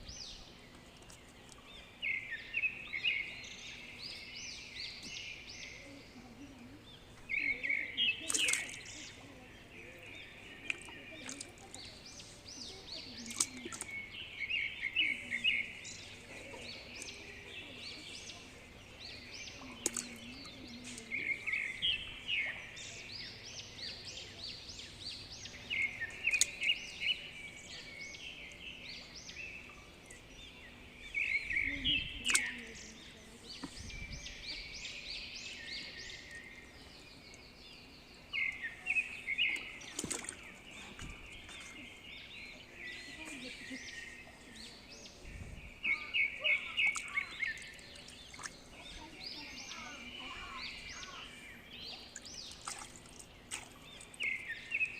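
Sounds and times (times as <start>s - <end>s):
bird singing: 0.0s - 54.9s.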